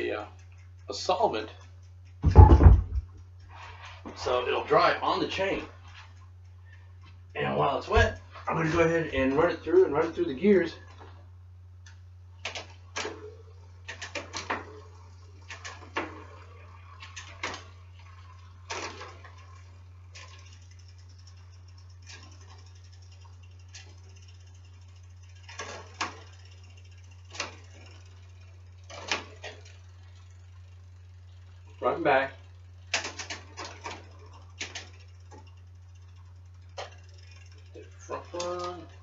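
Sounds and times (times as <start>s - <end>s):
bicycle gears clicking: 0.0s - 39.0s
steady low hum: 0.0s - 39.0s.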